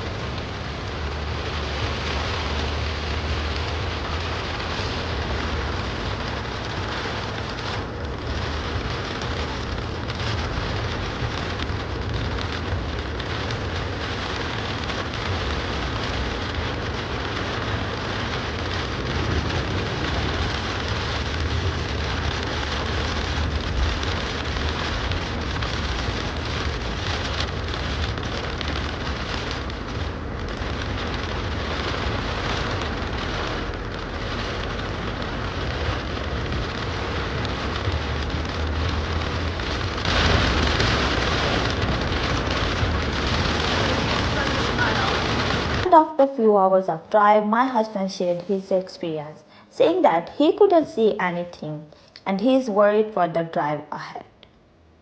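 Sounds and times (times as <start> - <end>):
engine and road noise rumble: 0.0 - 53.7
rain pelting a car: 0.0 - 54.2.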